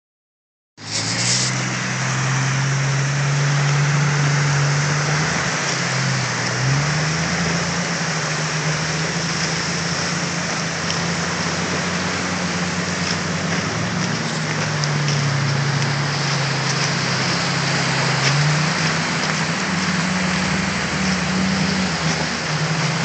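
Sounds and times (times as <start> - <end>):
car engine pulling steadily: 0.8 - 23.0
water rushing and splashing: 0.8 - 23.0.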